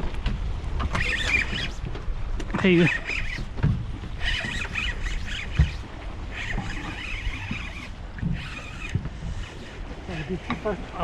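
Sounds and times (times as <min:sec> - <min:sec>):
water rumble: 0:00.0 - 0:11.0.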